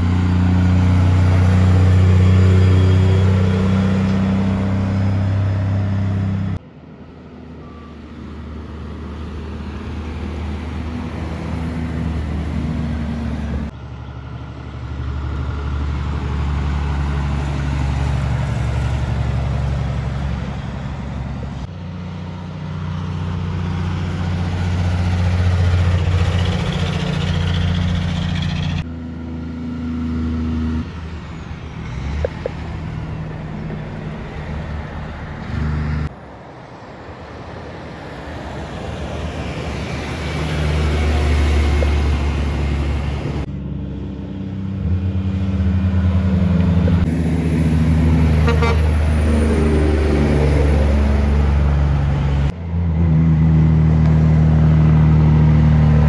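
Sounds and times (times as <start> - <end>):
diesel trucks passing: 0.0 - 56.0.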